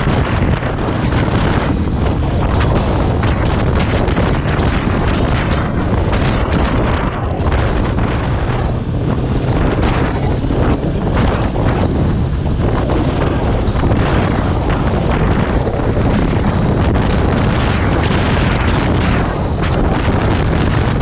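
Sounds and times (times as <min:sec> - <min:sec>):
motorcycle engine drone: 0:00.0 - 0:21.0
wind buffeting microphone: 0:00.0 - 0:21.0.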